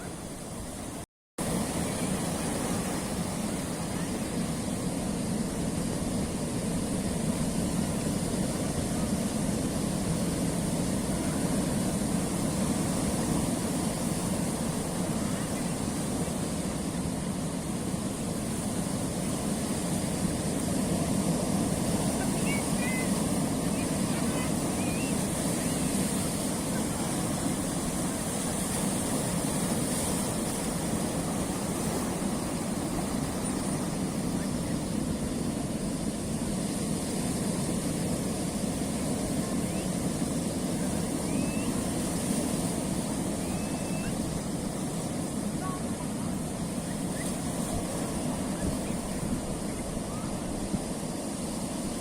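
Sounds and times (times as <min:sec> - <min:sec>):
surf rumbling on rocky shore: 0:00.0 - 0:52.0.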